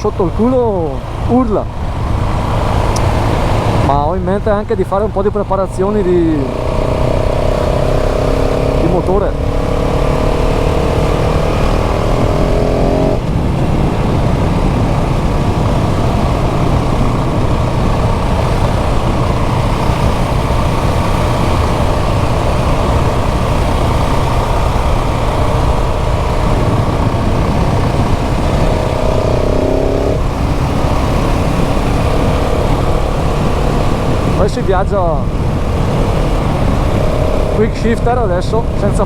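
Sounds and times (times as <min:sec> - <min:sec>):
motorcycle engine running: 0:00.0 - 0:39.0
wind noise on microphone: 0:06.5 - 0:39.0.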